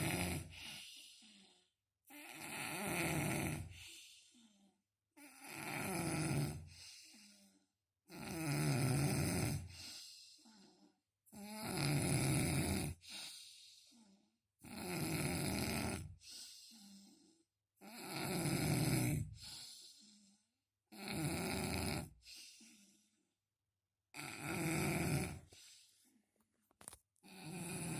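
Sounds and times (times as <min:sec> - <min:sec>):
person snoring: 0:00.0 - 0:04.6, 0:05.2 - 0:07.5, 0:08.1 - 0:17.2, 0:17.8 - 0:20.3, 0:20.9 - 0:22.9, 0:24.2 - 0:25.6, 0:26.8 - 0:27.9.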